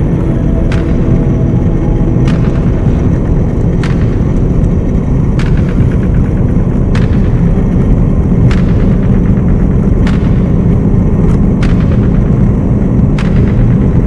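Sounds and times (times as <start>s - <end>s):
car engine roaring: 0.0s - 14.0s
wind and road noise: 0.0s - 14.0s.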